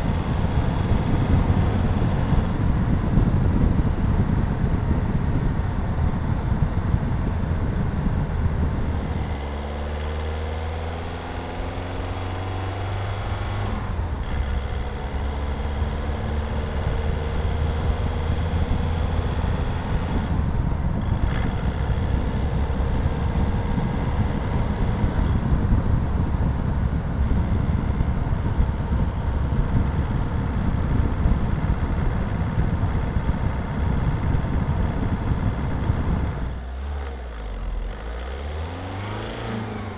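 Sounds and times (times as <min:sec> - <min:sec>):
diesel engine droning under load: 0:00.0 - 0:39.9.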